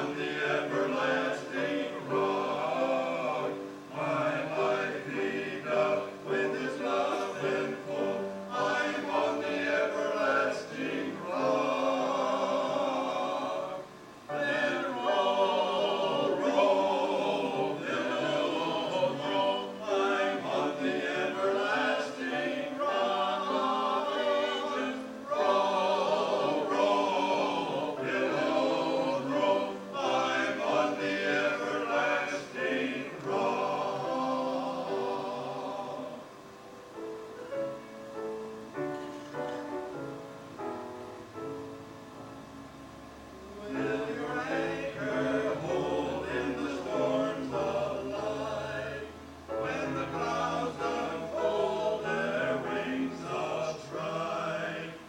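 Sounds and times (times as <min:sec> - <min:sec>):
choir singing a hymn: 0:00.0 - 0:40.8, 0:43.1 - 0:55.0.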